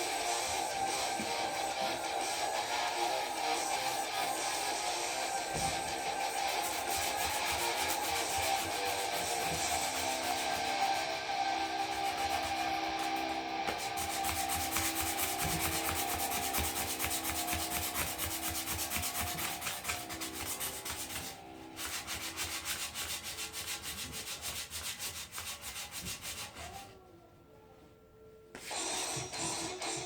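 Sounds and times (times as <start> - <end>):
sandpaper scratching metal frame: 0.0 - 26.9.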